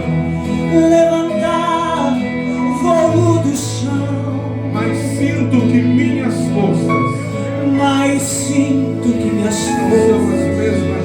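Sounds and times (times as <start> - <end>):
gospel worship music: 0.0 - 11.0
people singing: 0.0 - 11.0.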